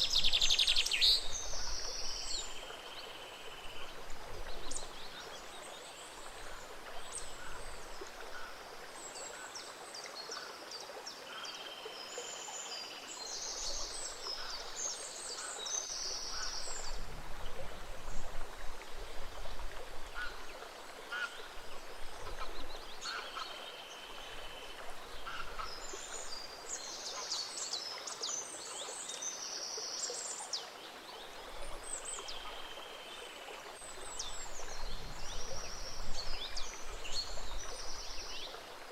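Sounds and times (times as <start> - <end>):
small stream running: 0.0 - 38.9.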